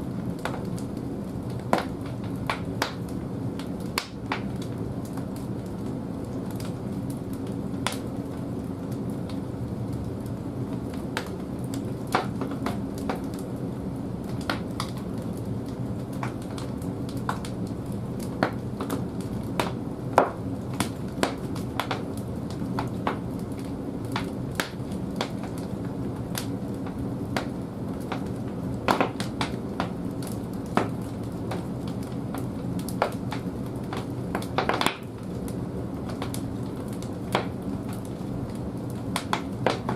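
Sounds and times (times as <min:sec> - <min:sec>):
fire crackling and popping: 0:00.0 - 0:39.9
logs burning in boiler: 0:00.0 - 0:39.9.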